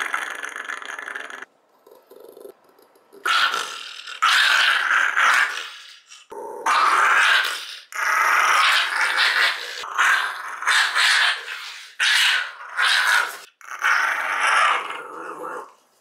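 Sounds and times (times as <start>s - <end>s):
small dog snarling and growling: 0.0s - 15.8s.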